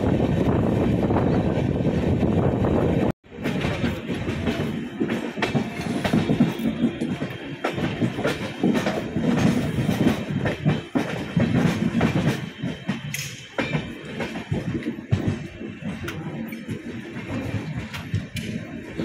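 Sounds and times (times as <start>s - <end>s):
train wheels clattering over rail joints: 3.3s - 19.0s.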